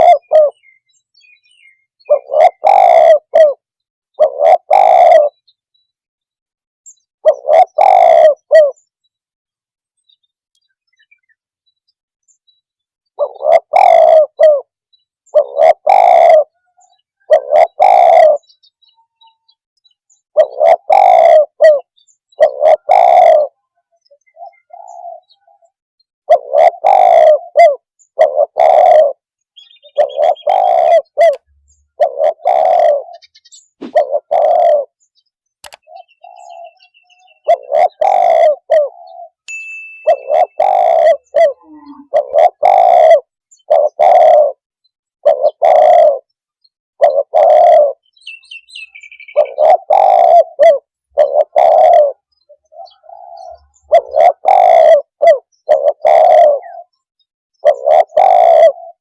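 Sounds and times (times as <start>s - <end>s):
dove cooing: 0.0s - 0.8s, 1.5s - 3.6s, 4.2s - 5.4s, 7.2s - 8.8s, 13.2s - 18.6s, 20.3s - 35.0s, 35.6s - 39.4s, 40.0s - 46.3s, 47.0s - 59.0s
small bird chirping: 0.0s - 6.0s, 10.0s - 59.0s.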